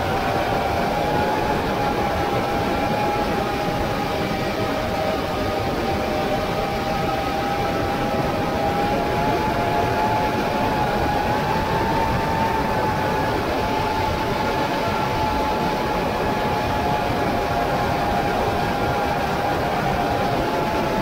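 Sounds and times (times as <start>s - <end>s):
drone propellers whining: 0.0s - 21.0s
rushing noise: 0.0s - 21.0s.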